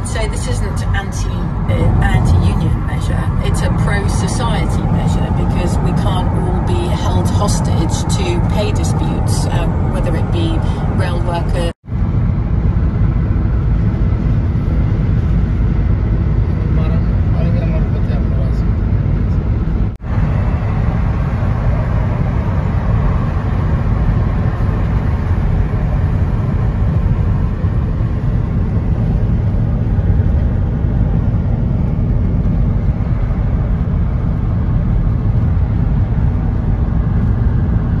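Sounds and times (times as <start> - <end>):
road and tyre noise: 0.0 - 38.0.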